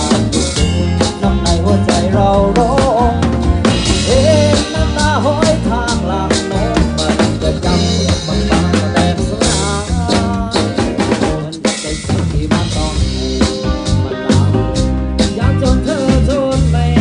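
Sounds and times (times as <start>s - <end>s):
band playing: 0.0s - 17.0s
drum kit beat: 0.0s - 17.0s.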